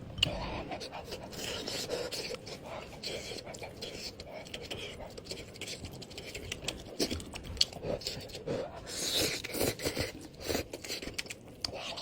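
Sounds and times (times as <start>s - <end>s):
frozen noodles crunching and scraping: 0.9s - 12.0s.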